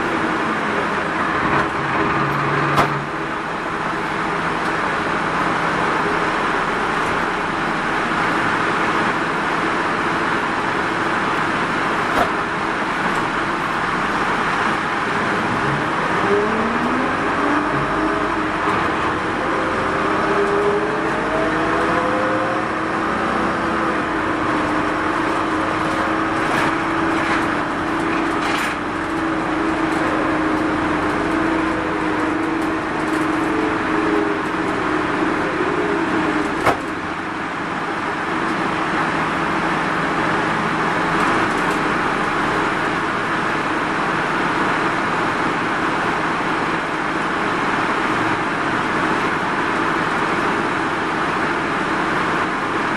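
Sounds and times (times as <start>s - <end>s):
diesel engine and drivetrain whine: 0.0s - 52.9s
road rumble and hiss: 0.0s - 52.9s.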